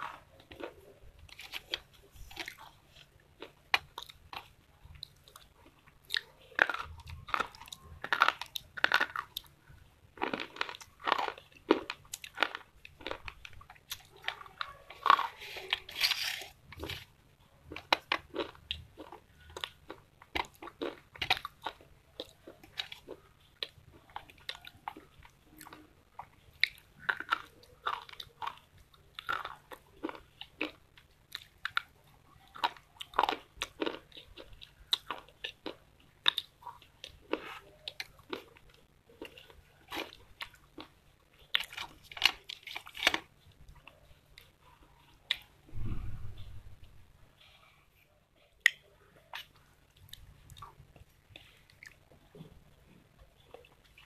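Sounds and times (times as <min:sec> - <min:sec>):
crunchy biting and chewing: 0:00.0 - 0:09.6, 0:10.2 - 0:45.5.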